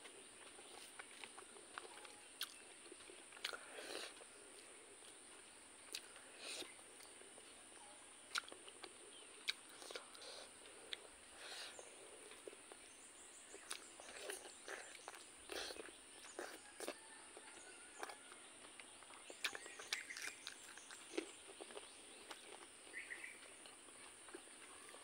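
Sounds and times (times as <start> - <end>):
chewing with wet lip smacks: 0.1 - 7.5, 8.3 - 11.6, 12.2 - 25.0.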